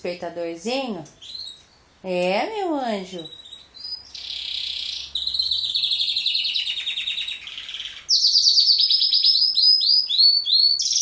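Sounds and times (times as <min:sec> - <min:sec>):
songbird singing: 0:00.0 - 0:02.3, 0:02.9 - 0:11.0.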